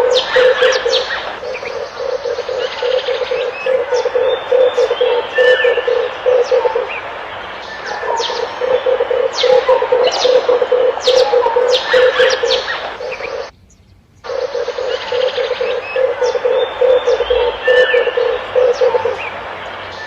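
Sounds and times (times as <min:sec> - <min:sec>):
doves cooing: 0:00.0 - 0:13.5, 0:14.3 - 0:20.0
small birds chirping: 0:00.0 - 0:20.0.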